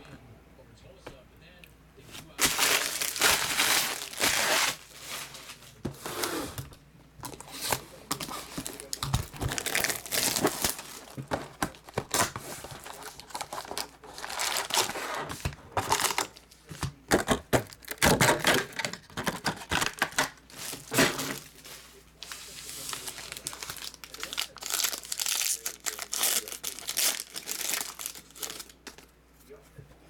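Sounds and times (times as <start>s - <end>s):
plastic wrap crinkling and tearing: 2.3s - 5.8s, 7.2s - 29.1s.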